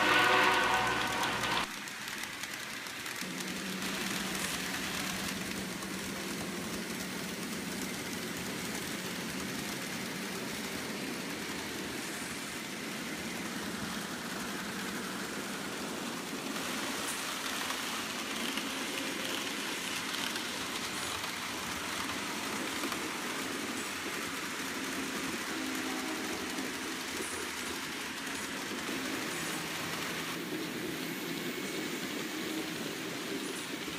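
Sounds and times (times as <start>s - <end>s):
model trains whirring and rattling: 0.0s - 33.9s.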